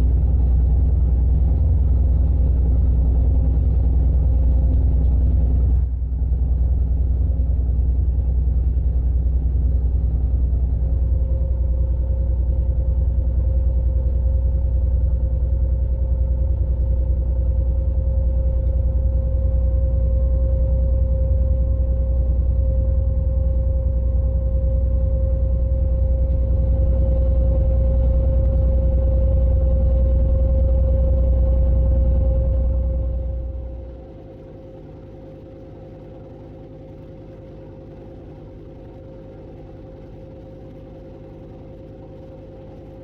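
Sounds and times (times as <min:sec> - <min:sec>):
steady engine whine: 0:00.0 - 0:43.0.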